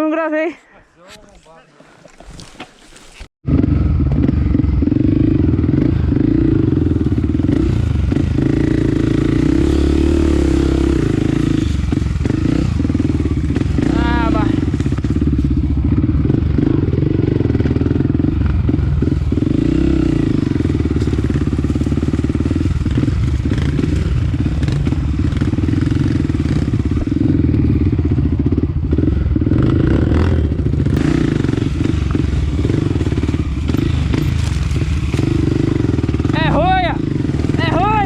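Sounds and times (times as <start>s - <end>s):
dirt bike engine running: 3.4s - 38.0s.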